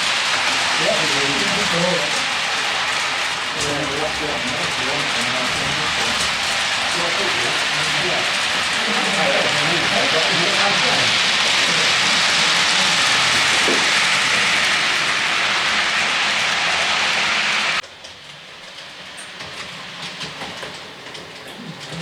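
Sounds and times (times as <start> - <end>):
model train hissing: 0.0 - 17.8.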